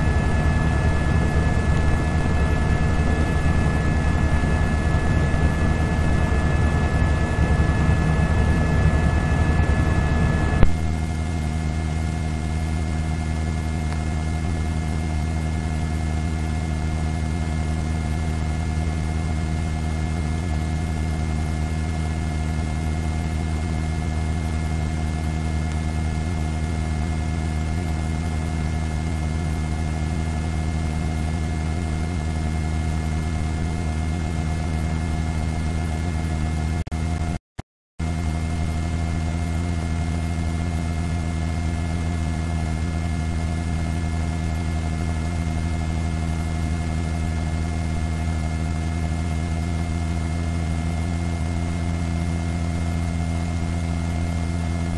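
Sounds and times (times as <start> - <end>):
helicopter cabin drone: 0.0 - 37.4, 38.0 - 54.9.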